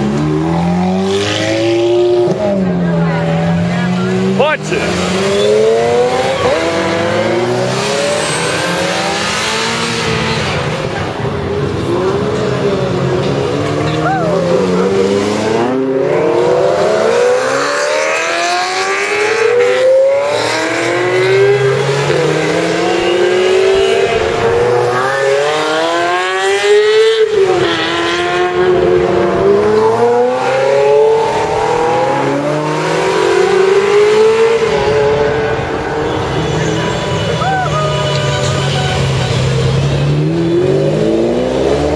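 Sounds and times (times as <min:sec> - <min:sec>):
sports car engines revving: 0:00.0 - 0:41.9.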